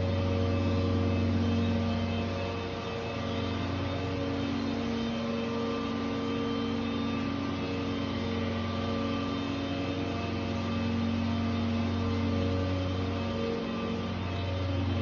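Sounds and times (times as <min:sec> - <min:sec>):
machine droning hum: 0:00.0 - 0:15.0.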